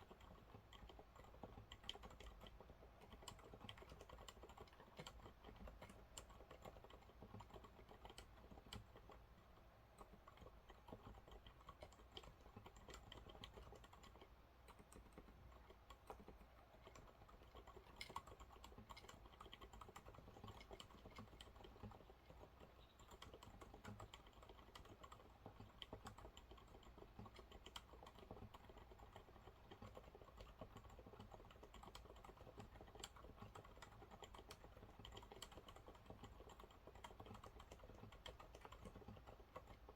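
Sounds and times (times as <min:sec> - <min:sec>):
typing on mechanical keyboard: 0:00.0 - 0:09.3, 0:10.0 - 0:39.9.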